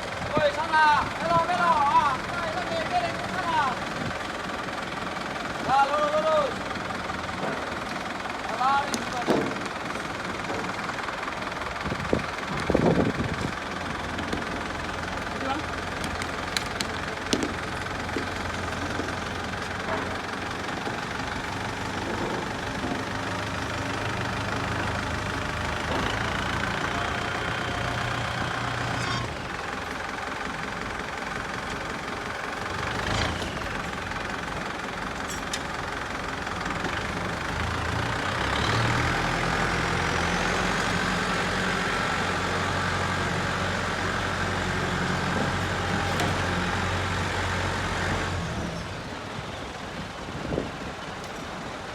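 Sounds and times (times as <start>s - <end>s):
tractor diesel engine idling: 0.0s - 51.9s.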